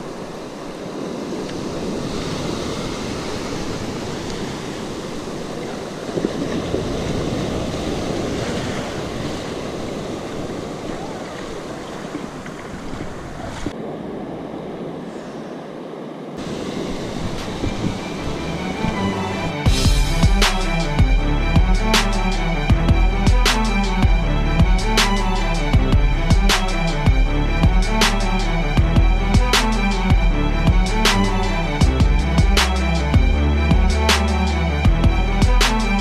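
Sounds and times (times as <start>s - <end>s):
ocean surf breaking: 0.0s - 36.0s
wind noise on microphone: 0.0s - 36.0s.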